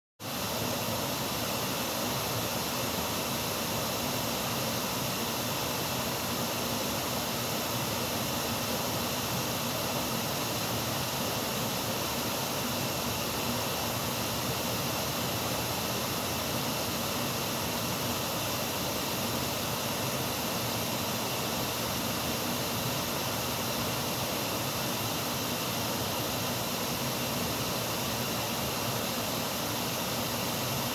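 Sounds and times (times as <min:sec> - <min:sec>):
water rushing over a dam: 0:00.2 - 0:30.9.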